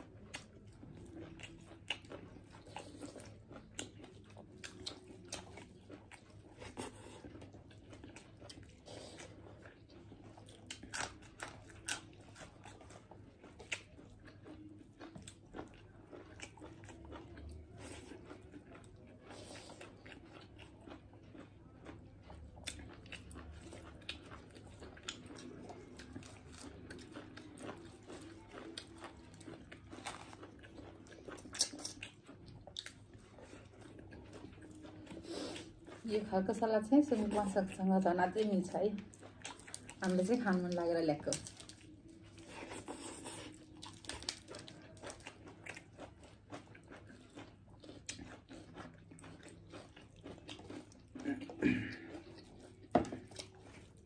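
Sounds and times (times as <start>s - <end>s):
people chewing and crunching: 0.0s - 54.0s.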